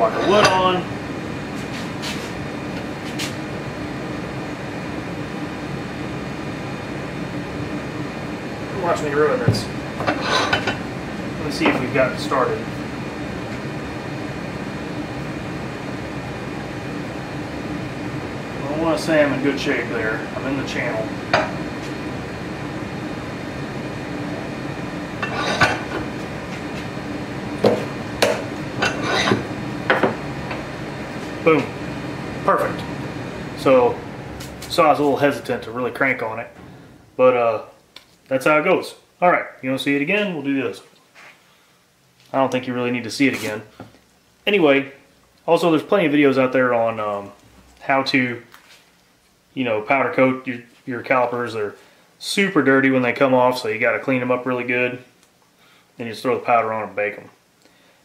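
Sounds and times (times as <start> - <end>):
air conditioning hum: 0.0 - 58.0.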